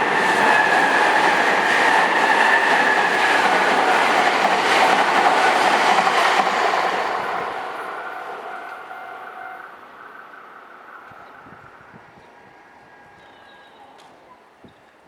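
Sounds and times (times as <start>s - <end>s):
electric train passing: 0.0s - 14.6s.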